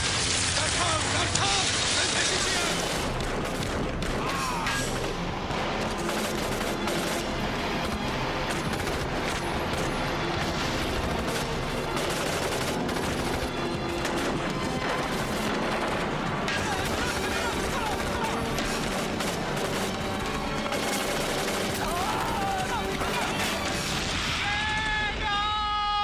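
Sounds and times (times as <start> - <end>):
film score music: 0.1 - 26.0
automatic rifle fire: 2.5 - 23.9.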